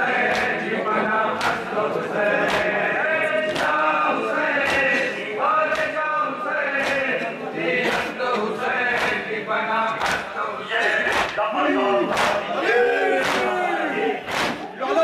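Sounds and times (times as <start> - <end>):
sharp rhythmic beat: 0.0 - 14.8
men chanting in unison: 0.0 - 15.0.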